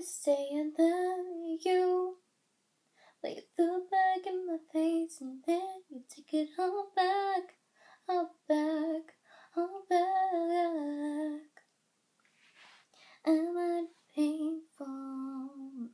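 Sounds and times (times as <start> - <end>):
girl singing wordless notes: 0.0 - 2.3, 3.0 - 11.7, 13.0 - 15.9.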